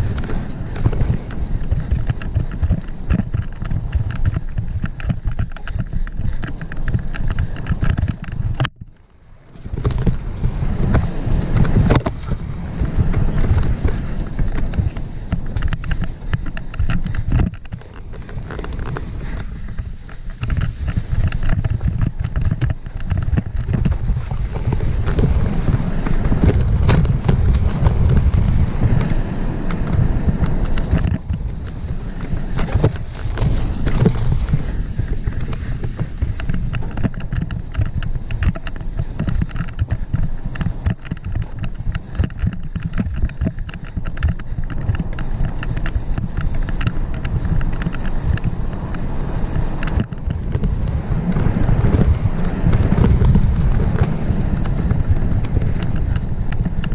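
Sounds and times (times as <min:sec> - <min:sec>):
bike rattling over bumps: 0:00.0 - 0:56.9
wind buffeting microphone: 0:00.0 - 0:56.9.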